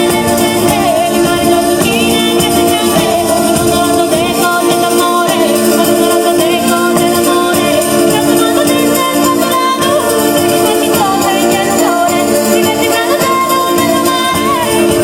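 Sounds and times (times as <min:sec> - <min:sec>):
busy percussion: 0:00.0 - 0:15.0
folk band playing: 0:00.0 - 0:15.0.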